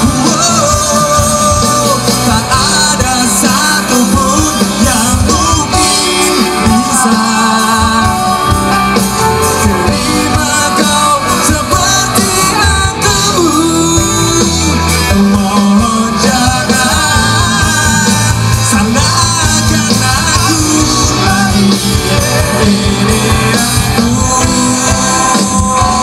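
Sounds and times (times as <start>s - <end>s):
live rock band playing: 0.0s - 26.0s
man singing: 0.0s - 26.0s.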